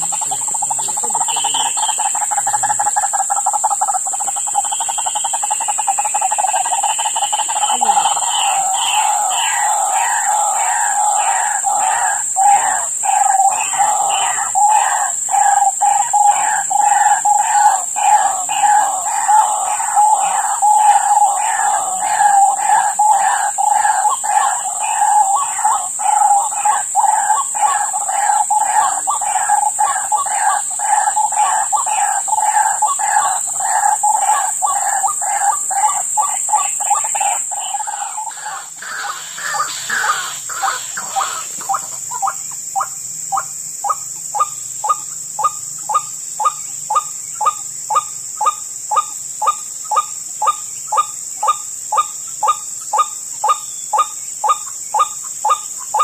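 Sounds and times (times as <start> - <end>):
waterhens calling: 0.0 - 56.0.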